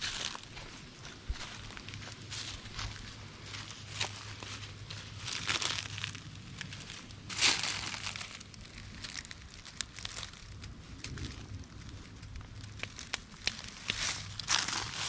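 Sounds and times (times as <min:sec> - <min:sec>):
footsteps crunching dry leaves: 0:00.0 - 0:10.6, 0:12.8 - 0:15.0.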